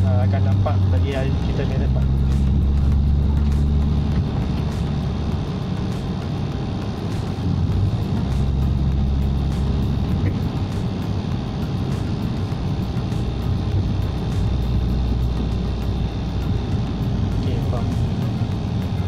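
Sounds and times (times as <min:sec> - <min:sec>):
car engine inside cabin: 0:00.0 - 0:19.0
road noise: 0:00.0 - 0:19.0.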